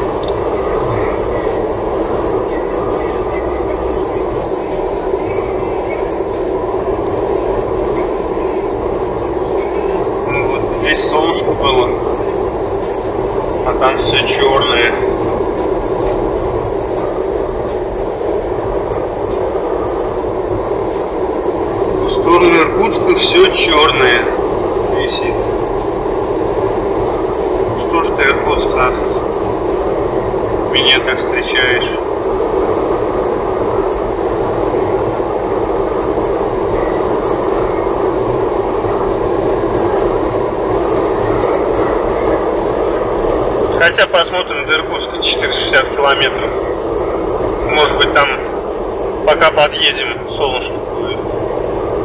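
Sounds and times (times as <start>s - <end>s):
road and tyre noise in car cabin: 0.0s - 52.0s.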